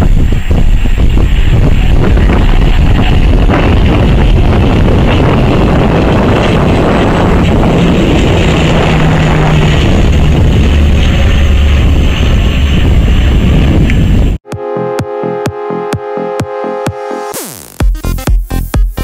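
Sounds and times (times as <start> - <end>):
low hum: 0.0 - 17.6
turboprop airliner drone: 0.0 - 18.8.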